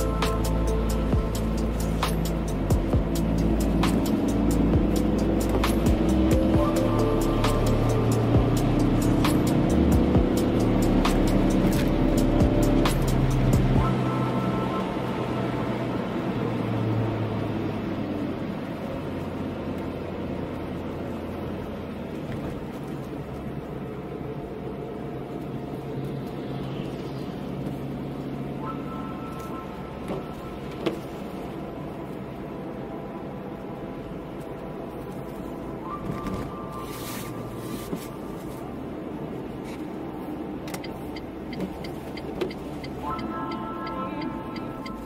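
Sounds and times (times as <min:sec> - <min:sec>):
car road and engine noise: 0:00.0 - 0:45.0.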